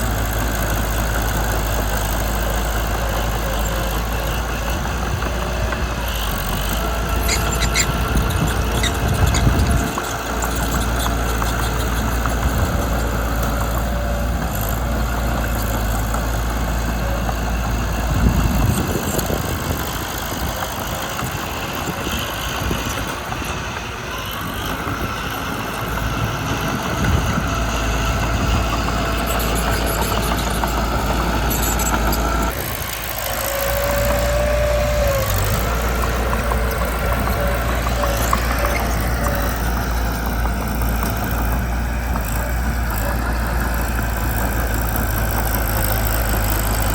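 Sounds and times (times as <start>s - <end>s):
diesel engine low rumble: 0.0s - 46.9s.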